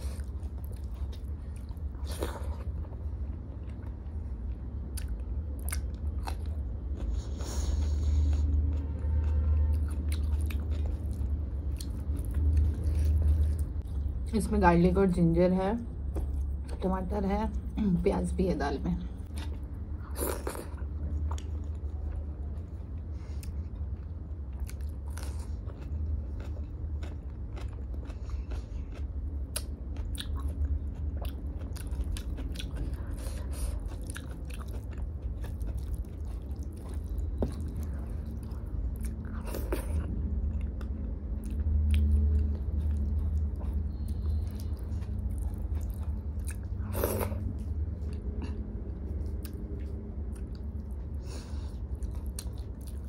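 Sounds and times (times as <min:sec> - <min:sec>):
chewing food: 0:00.0 - 0:14.2, 0:19.1 - 0:53.0.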